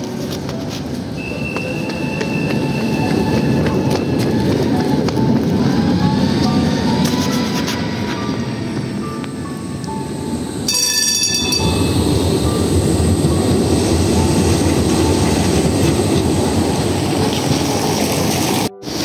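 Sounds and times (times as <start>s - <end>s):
tram bell ringing: 0.0s - 19.0s
tram wheels rumbling on rails: 0.0s - 19.0s.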